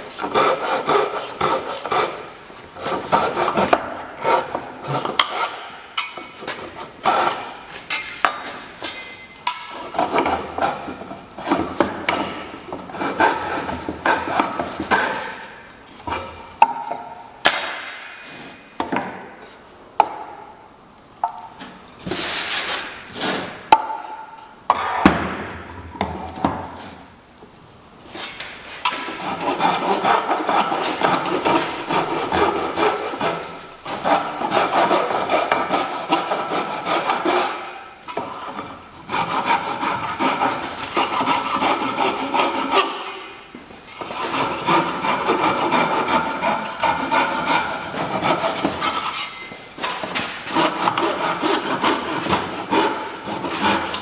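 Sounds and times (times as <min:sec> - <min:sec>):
hand tool scraping wood: 0:00.0 - 0:16.8, 0:21.2 - 0:24.0, 0:28.1 - 0:54.0.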